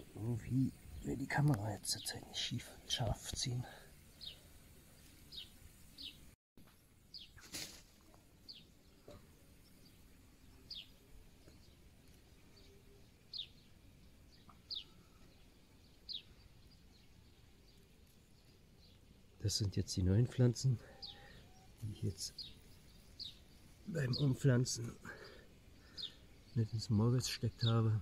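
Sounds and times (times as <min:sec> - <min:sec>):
faint outdoor hiss: 0:00.0 - 0:28.0
small bird chirping: 0:02.9 - 0:28.0.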